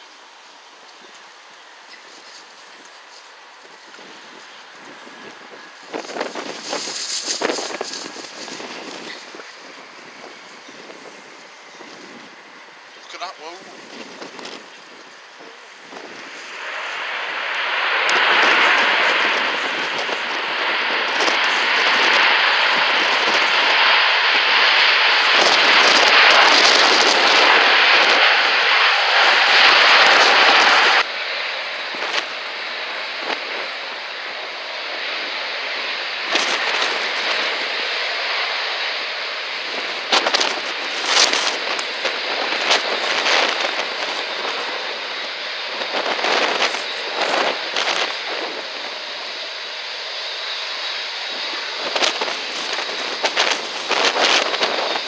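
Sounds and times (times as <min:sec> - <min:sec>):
jet engines roaring: 0:00.0 - 0:55.0
wind gusts on microphone: 0:01.0 - 0:55.0.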